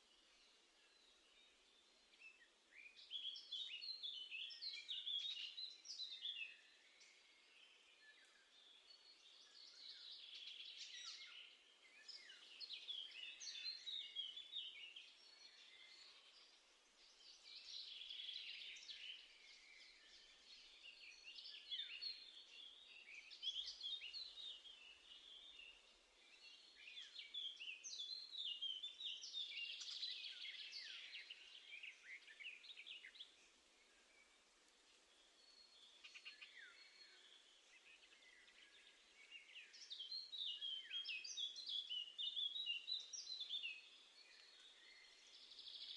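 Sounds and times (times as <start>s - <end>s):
faint background hiss: 0.0s - 45.9s
songbirds twittering: 0.0s - 45.9s.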